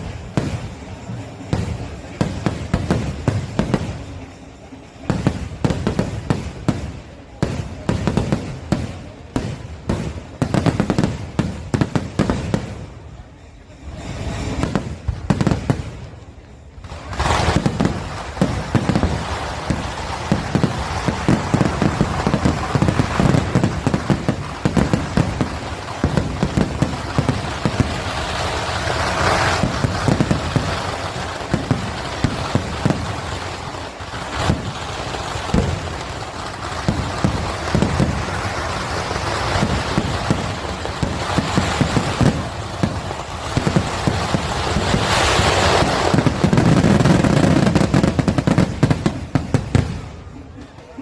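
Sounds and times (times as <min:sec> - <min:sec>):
fireworks banging and crackling: 0:00.0 - 0:51.0.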